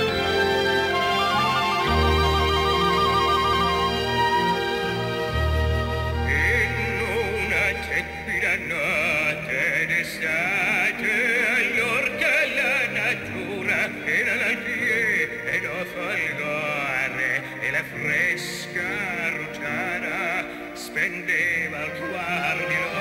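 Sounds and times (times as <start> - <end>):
operatic solo singing: 0.0 - 23.0
orchestral accompaniment: 0.0 - 23.0.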